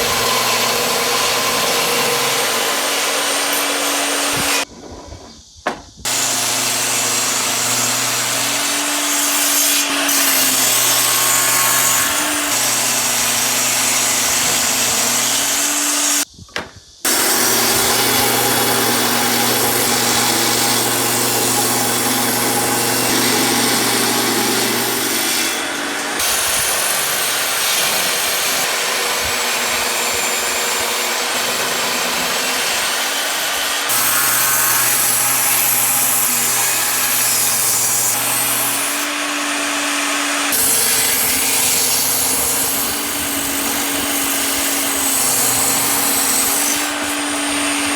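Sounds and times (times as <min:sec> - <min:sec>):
electric power tool motor: 0:06.1 - 0:16.3, 0:17.1 - 0:47.9.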